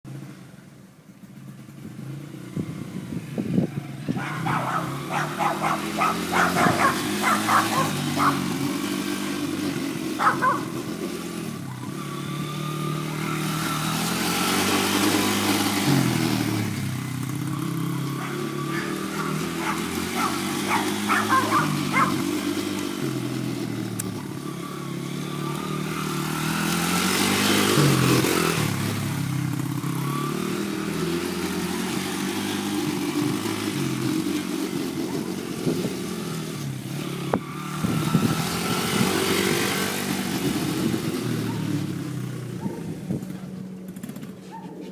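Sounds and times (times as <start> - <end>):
dirt bike engine revving: 1.9 - 44.9.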